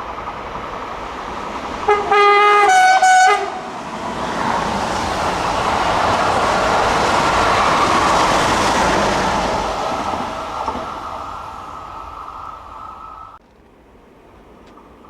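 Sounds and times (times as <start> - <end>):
train passing: 0.0 - 13.4.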